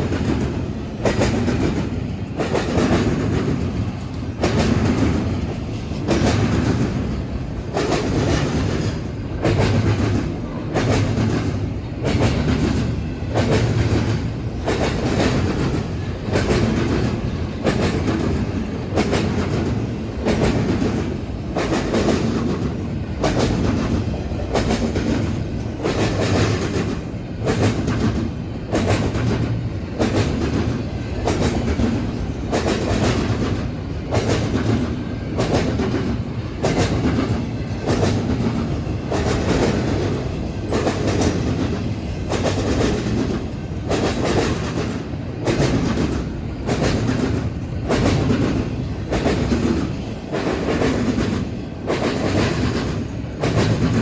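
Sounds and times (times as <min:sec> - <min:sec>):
rolling rumble of rail cars: 0:00.0 - 0:54.0
train wheels clacking over crossing: 0:00.0 - 0:54.0.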